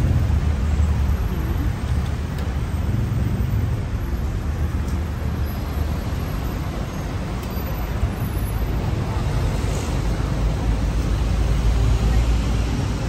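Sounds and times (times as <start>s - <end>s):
traffic rumbling past: 0.0s - 13.0s.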